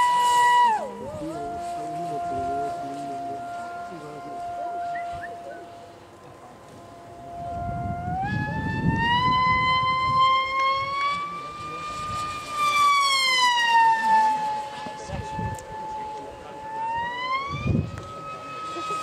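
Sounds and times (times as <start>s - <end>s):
rc plane motor whining: 0.0s - 19.0s
wind rumble on microphone: 0.0s - 19.0s.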